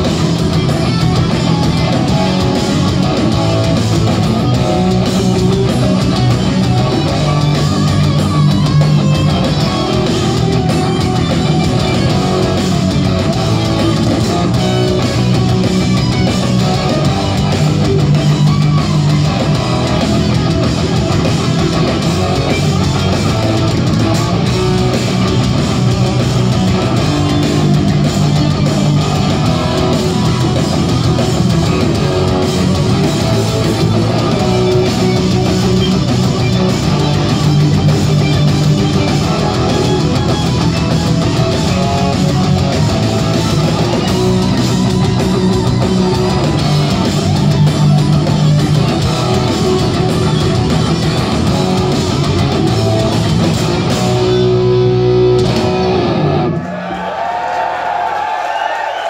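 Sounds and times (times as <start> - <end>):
heavy metal band playing live: 0.0 - 58.7.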